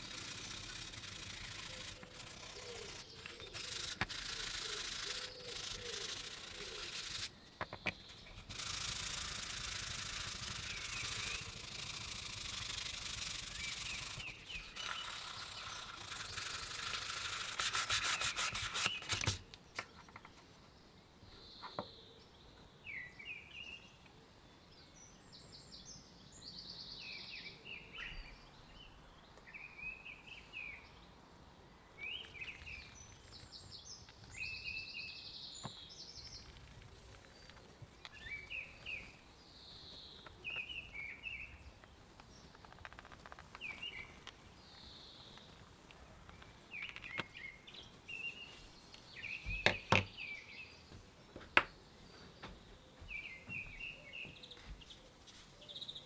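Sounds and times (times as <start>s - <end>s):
birds chirping and trilling: 0.0s - 31.2s, 31.8s - 56.0s.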